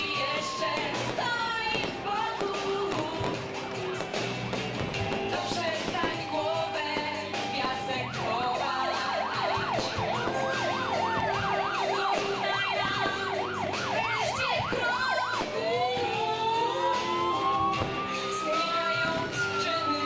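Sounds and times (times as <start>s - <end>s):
siren wailing: 0.0s - 4.1s, 4.8s - 20.0s
music: 0.0s - 20.0s.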